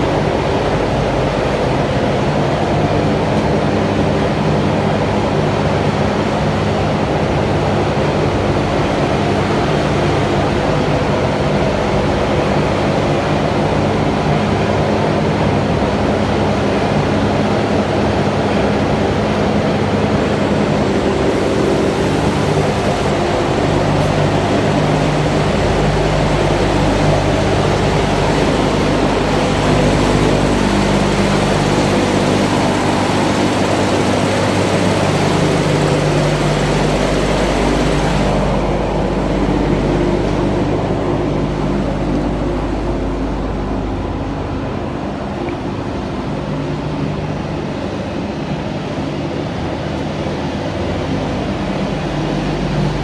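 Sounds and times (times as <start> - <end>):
machinery droning hum: 0.0 - 53.0.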